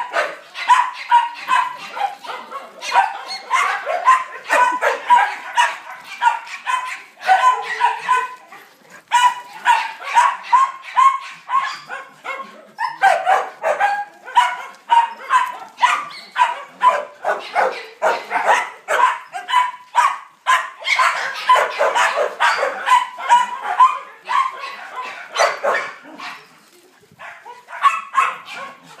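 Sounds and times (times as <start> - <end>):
dogs barking and yipping: 0.0 - 29.0.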